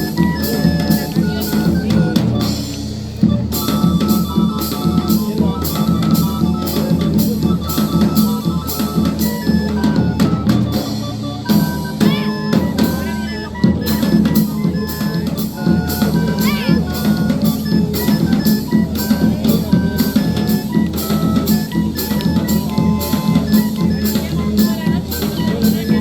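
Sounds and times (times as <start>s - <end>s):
bass drum and snare beat: 0.0s - 26.0s
stepping melody line: 0.0s - 26.0s.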